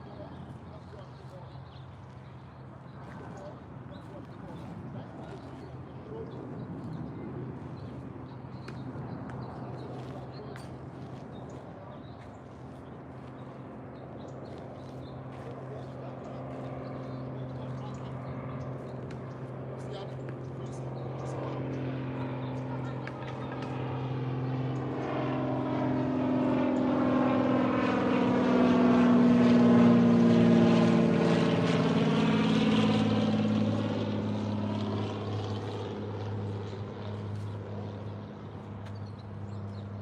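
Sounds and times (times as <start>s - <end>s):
propeller aircraft flying over: 0.0s - 40.0s.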